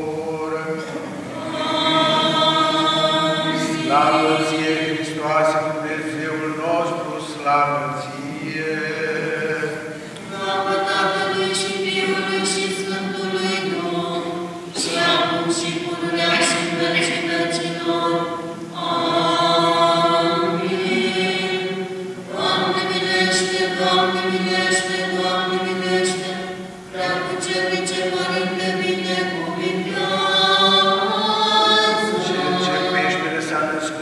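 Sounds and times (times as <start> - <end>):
choir singing unaccompanied chant: 0.0 - 34.0.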